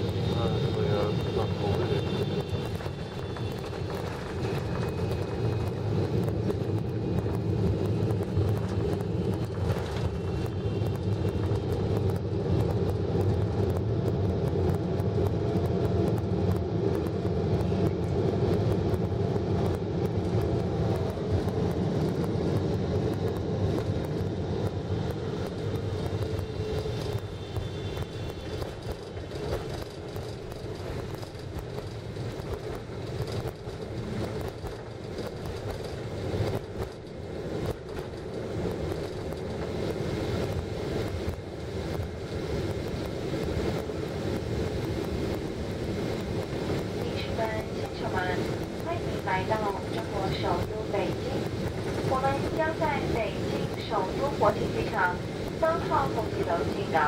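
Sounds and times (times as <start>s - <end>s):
aircraft engines and rolling wheels: 0.0s - 57.0s.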